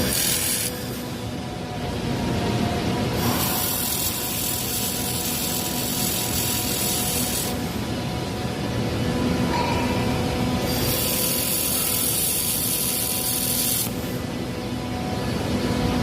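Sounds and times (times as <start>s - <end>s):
hissing rasping machine noise: 0.0s - 16.0s.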